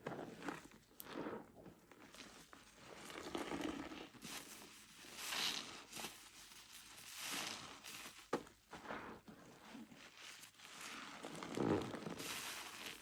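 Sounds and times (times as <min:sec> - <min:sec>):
sponge squishing and crackling: 0:02.0 - 0:13.0.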